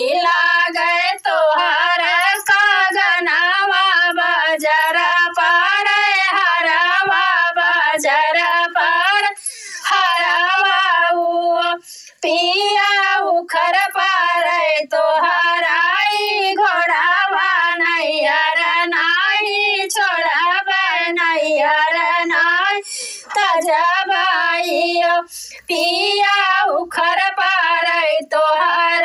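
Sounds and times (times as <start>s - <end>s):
woman singing: 0.0s - 29.0s.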